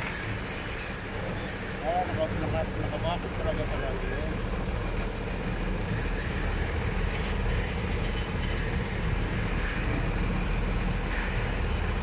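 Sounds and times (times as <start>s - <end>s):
faint constant hum: 0.0s - 12.0s
vehicle engine and road rumble: 0.0s - 12.0s.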